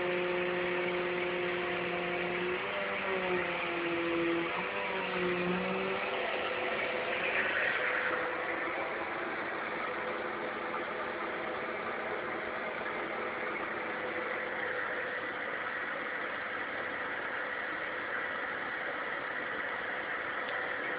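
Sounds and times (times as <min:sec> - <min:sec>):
vacuum cleaner motor whirring: 0:00.0 - 0:18.3.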